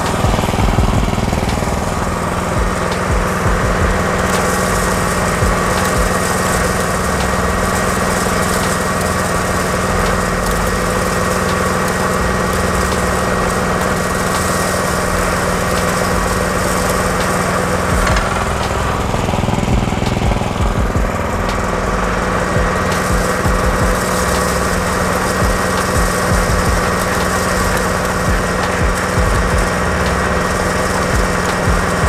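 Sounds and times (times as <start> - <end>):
mill whirring: 0.0 - 32.0
small engine drone: 0.0 - 32.0.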